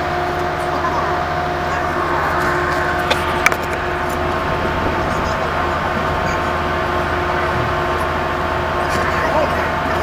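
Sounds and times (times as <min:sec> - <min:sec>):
ship engines droning: 0:00.0 - 0:10.0
steady humming tones: 0:00.0 - 0:10.0.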